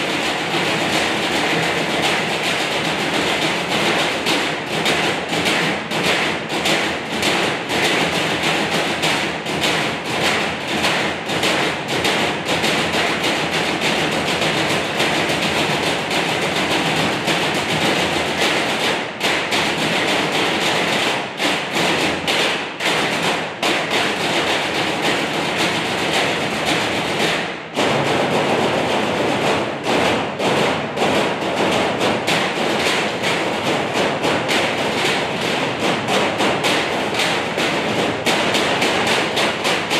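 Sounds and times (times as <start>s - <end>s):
drumming on metal trash cans: 0.0s - 39.9s.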